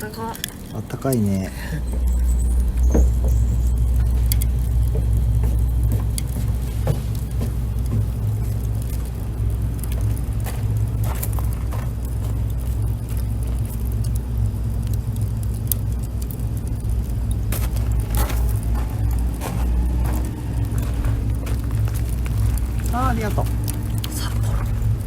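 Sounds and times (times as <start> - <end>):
campfire crackles: 0.0 - 25.0.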